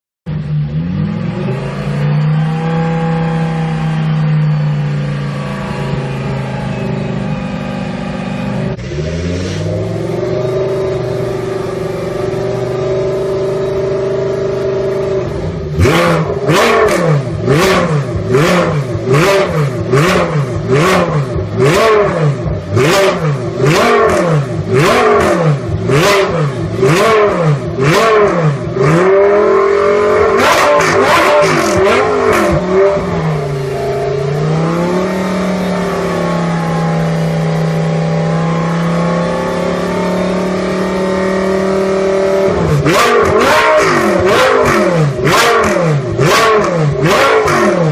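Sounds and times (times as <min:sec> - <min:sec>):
race car engine revving: 0:00.3 - 0:47.9.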